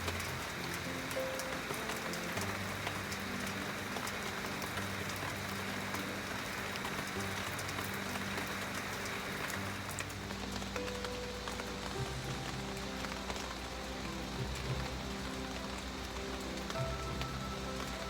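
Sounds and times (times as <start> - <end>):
soft background music: 0.0 - 18.0
steady rain falling: 0.0 - 18.0.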